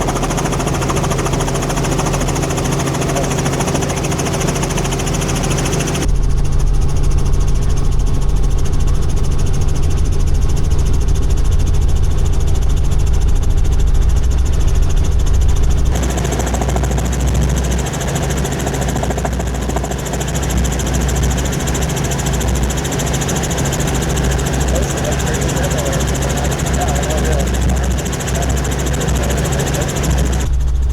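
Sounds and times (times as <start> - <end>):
helicopter engine and rotor drone: 0.0 - 30.9.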